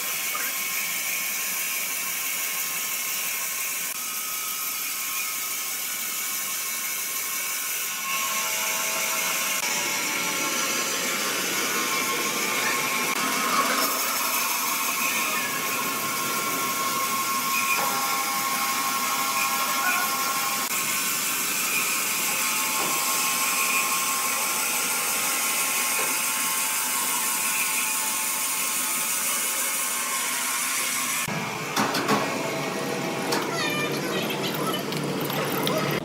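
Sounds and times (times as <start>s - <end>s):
machine whirring: 0.2s - 36.0s.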